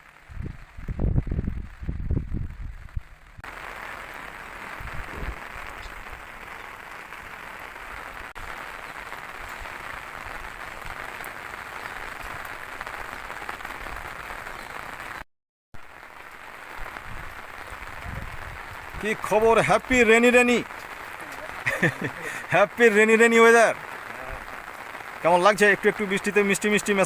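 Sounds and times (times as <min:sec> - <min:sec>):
steady rain falling: 0:00.0 - 0:15.2, 0:15.8 - 0:27.0.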